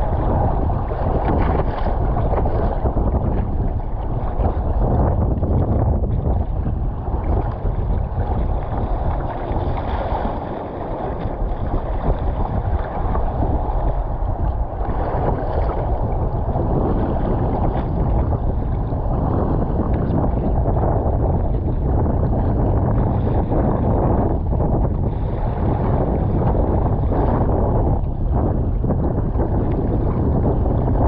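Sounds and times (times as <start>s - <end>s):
water splashing against hull: 0.0s - 31.0s
wind noise on microphone: 0.0s - 31.0s.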